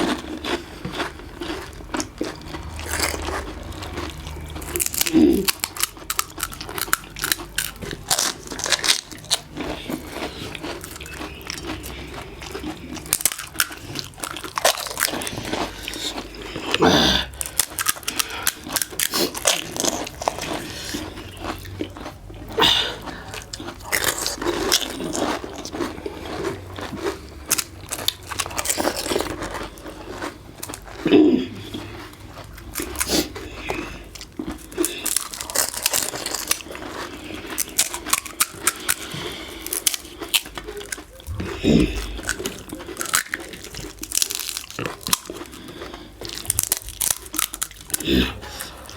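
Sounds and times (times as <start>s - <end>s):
chewing: 0.0s - 48.9s
crisp shells crunching: 0.0s - 48.9s.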